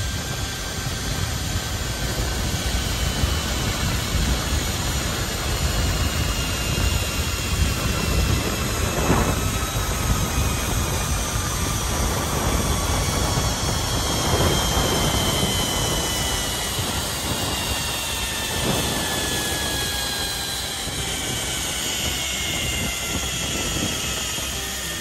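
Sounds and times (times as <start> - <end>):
wind rushing over microphone: 0.0 - 25.0
zip line trolley on cable: 0.0 - 25.0.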